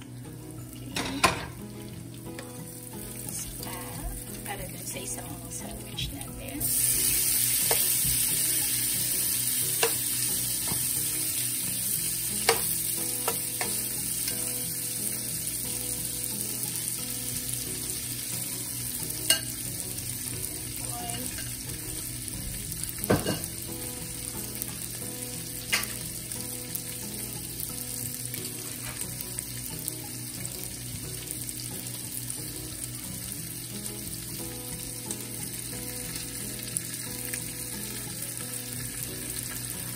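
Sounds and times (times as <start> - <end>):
meat sizzling in a pan: 0.0 - 39.9.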